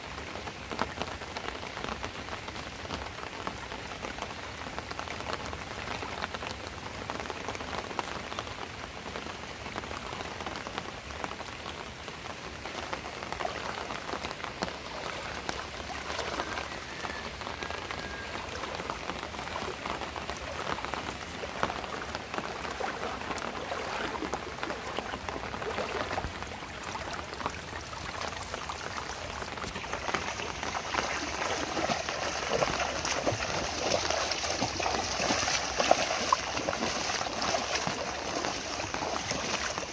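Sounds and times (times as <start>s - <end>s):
rain on standing water: 0.0s - 39.9s.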